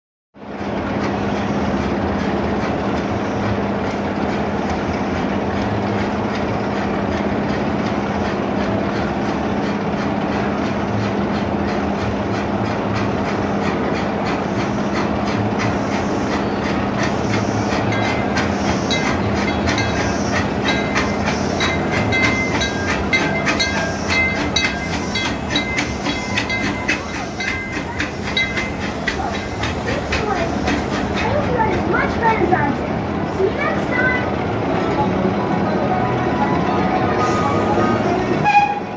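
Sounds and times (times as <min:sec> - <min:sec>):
steam train rumble and hum: 0:00.4 - 0:38.9
wheels clicking over rail joints: 0:00.6 - 0:35.1.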